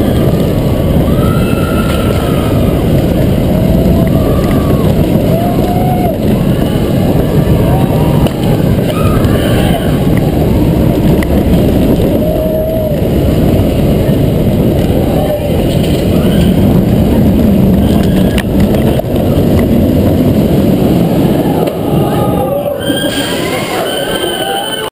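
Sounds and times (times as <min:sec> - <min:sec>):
wind rushing on microphone: 0:00.0 - 0:24.8
roller coaster rumbling on steel track: 0:00.0 - 0:24.9.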